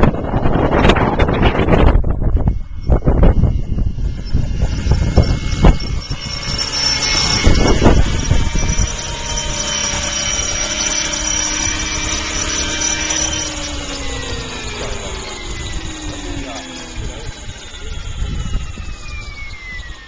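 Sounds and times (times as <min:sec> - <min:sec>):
rc helicopter rotor whine: 0:00.0 - 0:20.0
wind buffeting microphone: 0:00.0 - 0:20.0.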